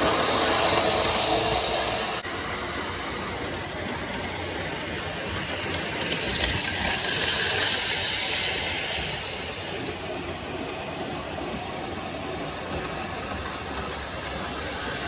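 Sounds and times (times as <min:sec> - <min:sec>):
model train rolling rumble: 0:00.0 - 0:15.0
wheels clicking over rail joints: 0:02.8 - 0:15.0.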